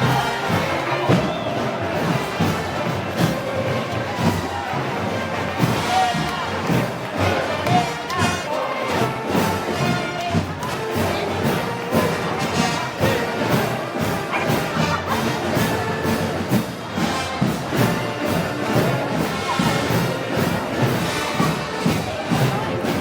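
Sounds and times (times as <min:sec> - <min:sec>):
brass band music: 0:00.0 - 0:23.0
steady drum beat: 0:00.0 - 0:23.0.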